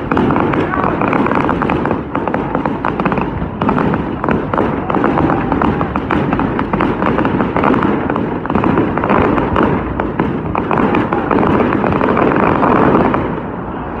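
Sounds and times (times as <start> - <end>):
fireworks crackling and banging: 0.0 - 13.9.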